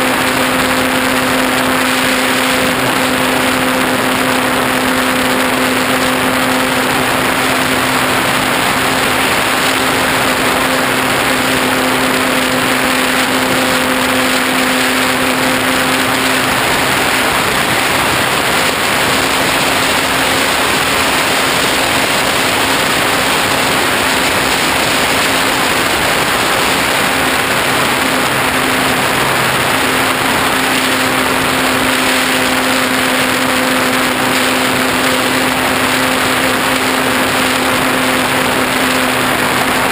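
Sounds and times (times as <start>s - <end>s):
electric motor and propeller hum: 0.0s - 39.9s
rushing wind noise: 0.0s - 39.9s.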